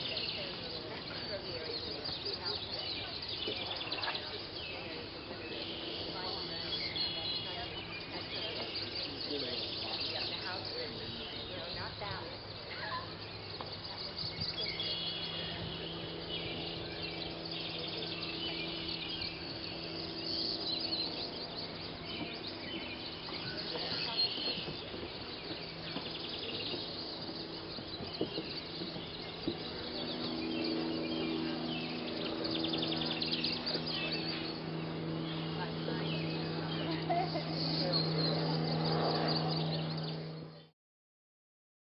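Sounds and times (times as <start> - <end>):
low steady hum: 0.0 - 40.7
songbirds chirping and trilling: 0.0 - 40.7.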